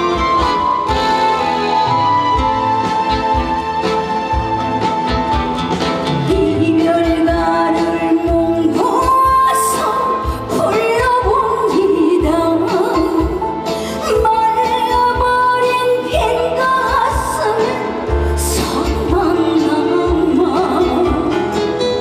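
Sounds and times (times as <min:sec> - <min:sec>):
slow ballad with band: 0:00.0 - 0:22.0.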